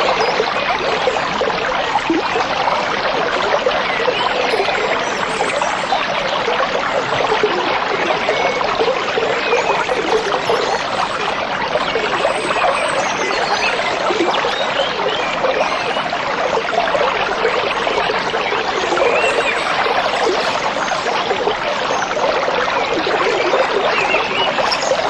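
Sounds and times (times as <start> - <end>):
stream babbling over stones: 0.0 - 25.0.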